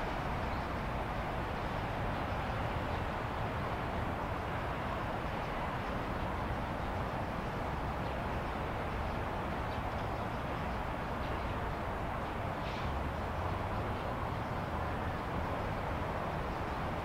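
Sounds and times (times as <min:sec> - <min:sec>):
distant traffic hum: 0:00.0 - 0:17.0.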